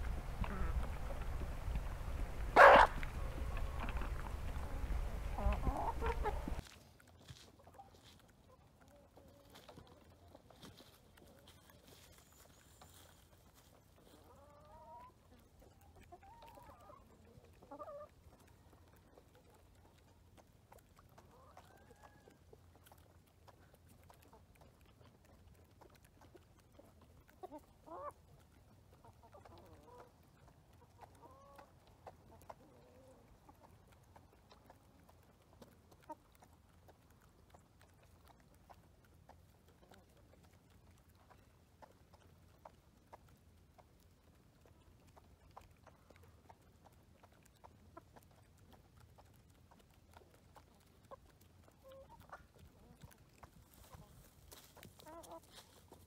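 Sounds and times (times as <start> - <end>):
chickens clucking softly: 0.0 - 56.0.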